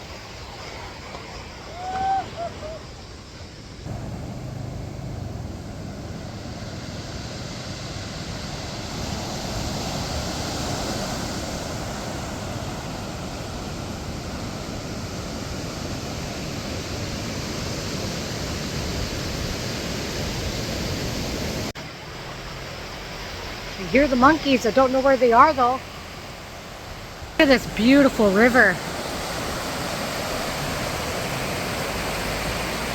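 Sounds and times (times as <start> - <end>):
rush of moving water: 3.9 - 32.9.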